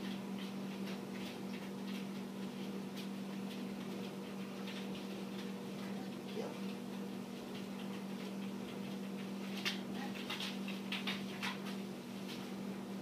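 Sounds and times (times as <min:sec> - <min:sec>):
dog paws on foam mats: 0:00.0 - 0:13.0
steady low hum: 0:00.0 - 0:13.0.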